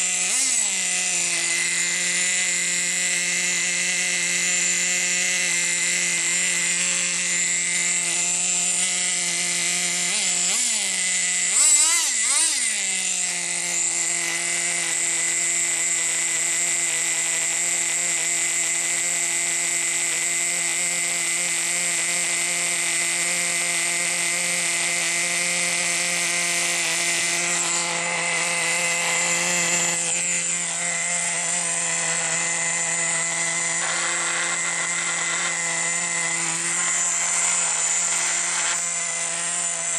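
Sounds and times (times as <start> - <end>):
rc truck engine buzzing and revving: 0.0 - 39.9.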